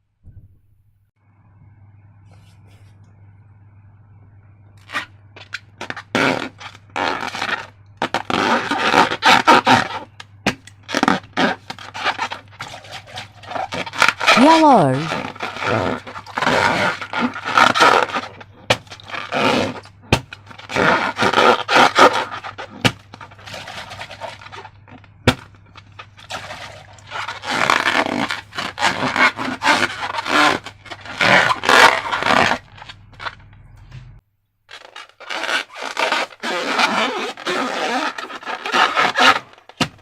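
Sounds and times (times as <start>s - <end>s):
slime squishing and scraping: 4.8s - 33.5s, 34.7s - 40.0s.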